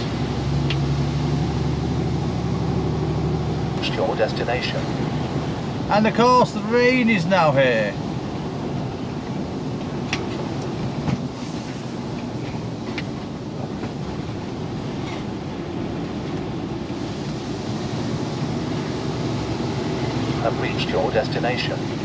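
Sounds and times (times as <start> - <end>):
lorry engine and road noise: 0.0 - 22.0.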